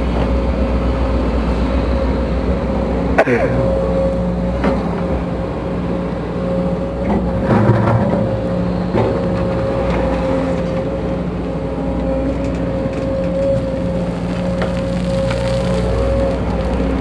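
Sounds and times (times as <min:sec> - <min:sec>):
excavator diesel engine: 0:00.0 - 0:17.0
hydraulic pump whine: 0:00.0 - 0:17.0.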